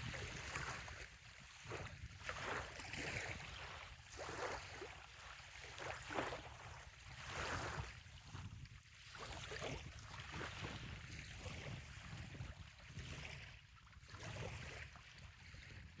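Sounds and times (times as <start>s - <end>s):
waves lapping on sandy shore: 0.0s - 16.0s.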